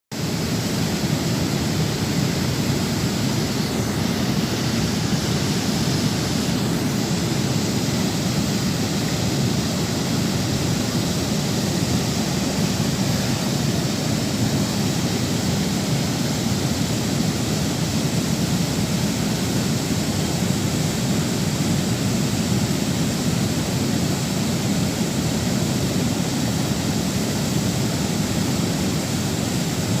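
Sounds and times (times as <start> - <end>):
rushing water: 0.1 - 30.0.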